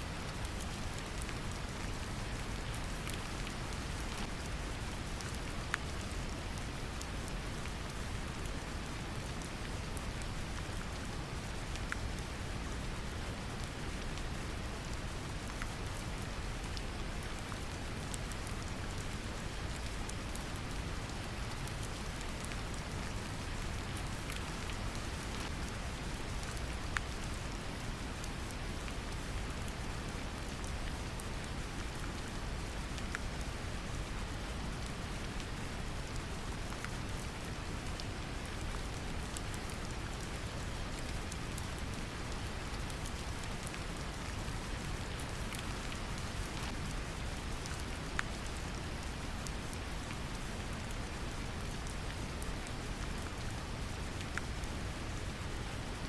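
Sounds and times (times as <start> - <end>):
rain pattering: 0.1 - 56.0.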